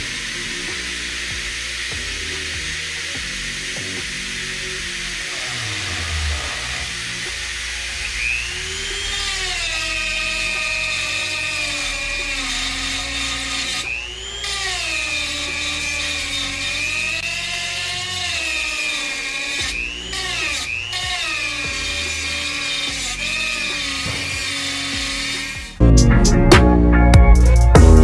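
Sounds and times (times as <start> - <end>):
rotary tool grinding metal: 0.0 - 25.8.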